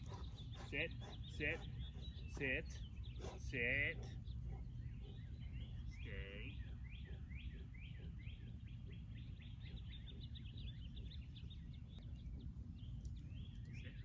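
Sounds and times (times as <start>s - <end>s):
low outdoor rumble: 0.0s - 14.0s
songbird chirping: 0.0s - 14.0s.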